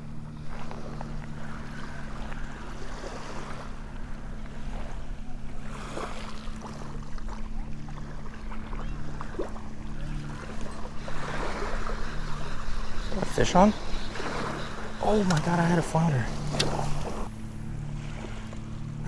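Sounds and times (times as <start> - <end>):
small waves lapping: 0.0 - 19.0
steady low hum: 0.0 - 19.0.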